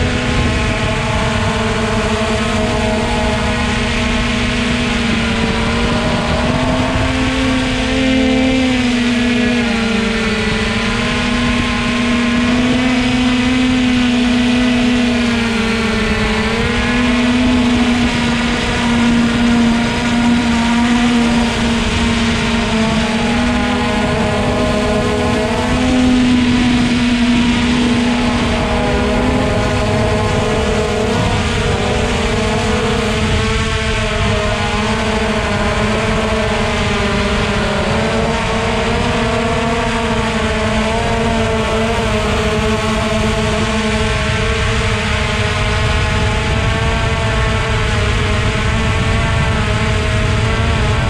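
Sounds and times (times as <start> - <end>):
drone motors and propellers humming: 0.0 - 51.0.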